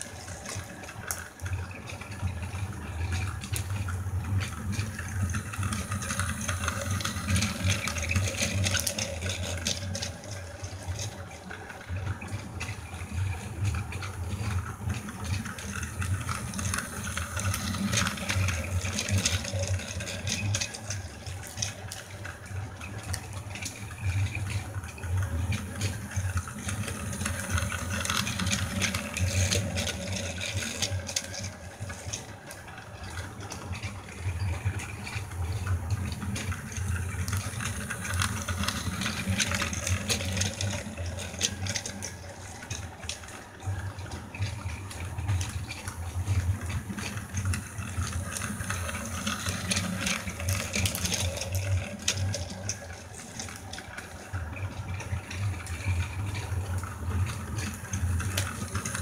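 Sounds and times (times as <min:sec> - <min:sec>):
clicking rattle of toy train wheels: 0:00.0 - 0:59.0
toy train motor whirring: 0:00.0 - 0:59.0.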